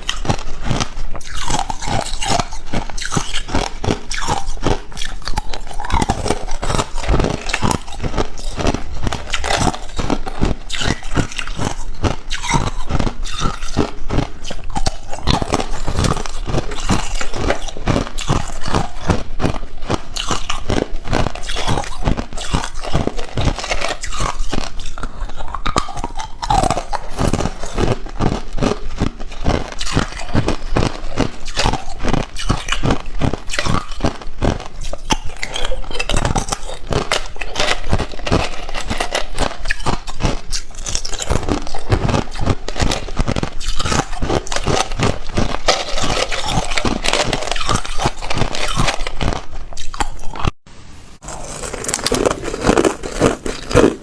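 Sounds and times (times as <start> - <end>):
ice cubes crunched by teeth: 0.0 - 50.6, 51.2 - 54.0.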